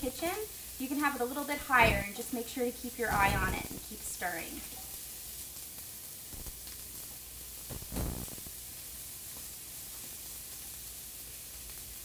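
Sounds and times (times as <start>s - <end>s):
onions sizzling in frying pan: 0.0s - 12.0s.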